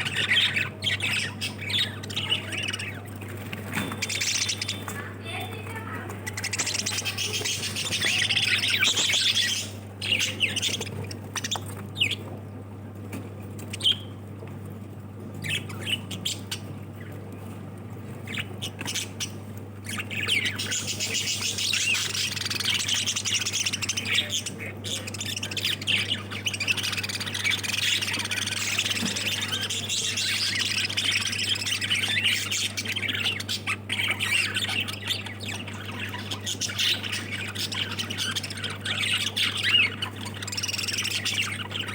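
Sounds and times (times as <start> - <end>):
birds chattering and squawking: 0.0 - 41.9.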